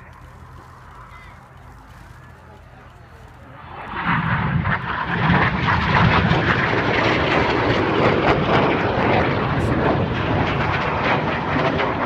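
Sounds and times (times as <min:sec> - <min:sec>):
jet aircraft roaring: 0:00.0 - 0:12.0.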